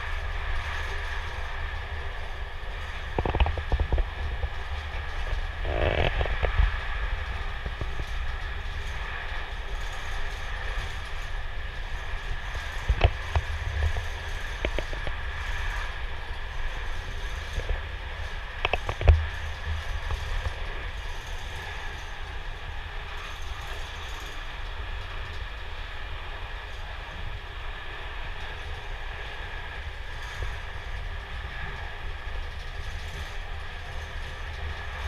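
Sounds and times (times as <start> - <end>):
carriage clacks and creaks: 0.0 - 25.7, 28.3 - 35.0
train rumbling on track: 0.0 - 35.0.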